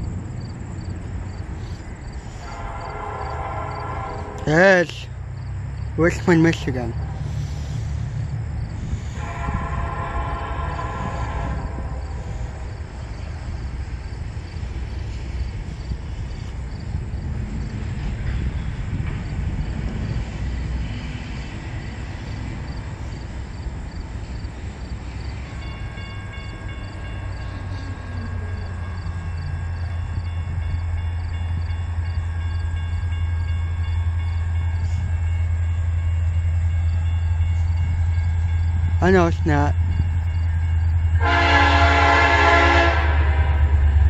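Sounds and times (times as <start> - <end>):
locomotive engine rumble: 0.0 - 44.0.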